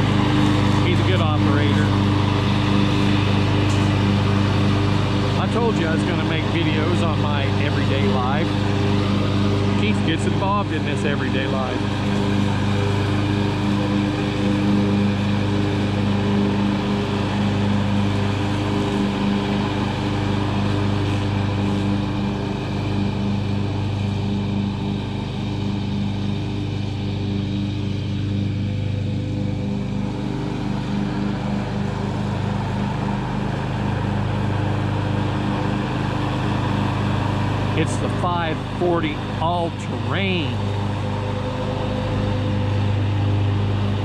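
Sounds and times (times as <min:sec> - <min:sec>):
riding mower engine humming: 0:00.0 - 0:44.0.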